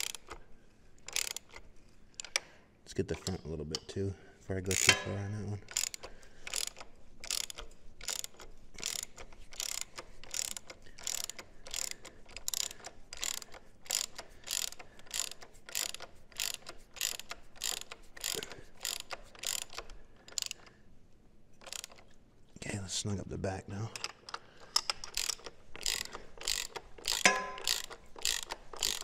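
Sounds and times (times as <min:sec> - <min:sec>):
hand ratchet clicking: 0:00.0 - 0:04.0, 0:04.7 - 0:20.8, 0:21.6 - 0:22.2, 0:24.0 - 0:29.0.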